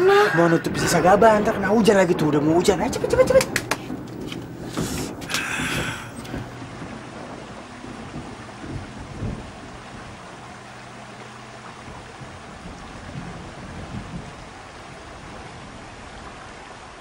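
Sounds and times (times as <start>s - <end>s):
steady rain hiss: 0.0s - 17.0s
thunder rumbling: 0.0s - 17.0s.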